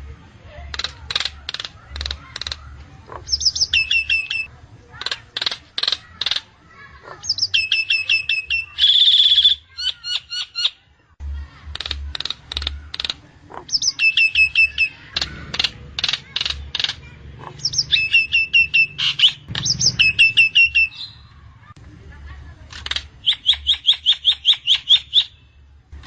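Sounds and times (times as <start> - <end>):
myna clicking calls: 0.7 - 10.7, 11.6 - 21.2, 22.6 - 25.3.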